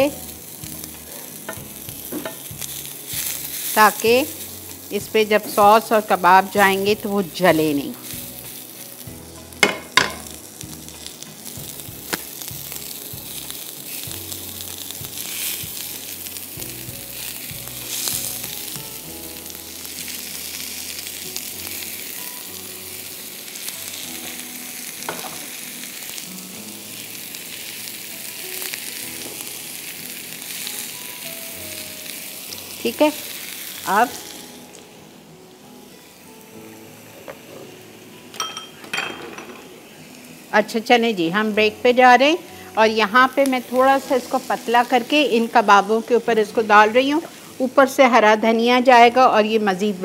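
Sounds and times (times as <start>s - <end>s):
vegetables sizzling on hot plate: 0.0s - 50.0s.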